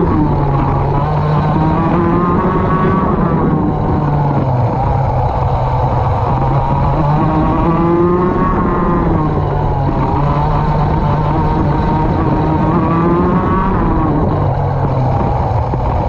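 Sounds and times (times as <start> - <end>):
go-kart engine revving: 0.0 - 16.0.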